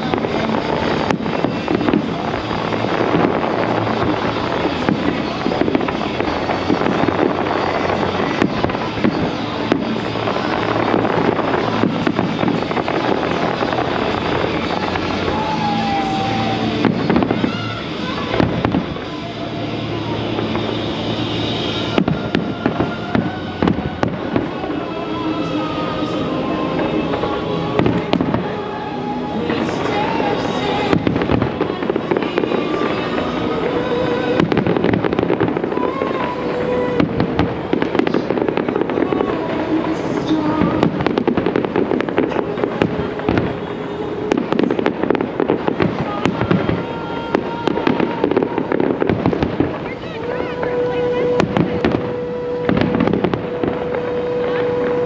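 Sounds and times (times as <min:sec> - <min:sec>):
fireworks bangs and crackles: 0:00.0 - 0:55.0
music playing: 0:00.0 - 0:55.0.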